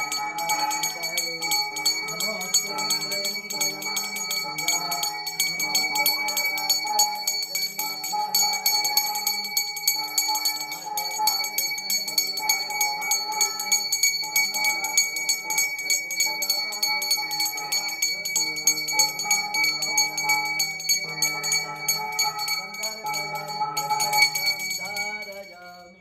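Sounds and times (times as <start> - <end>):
brass hand bell ringing rapidly: 0.0 - 26.0.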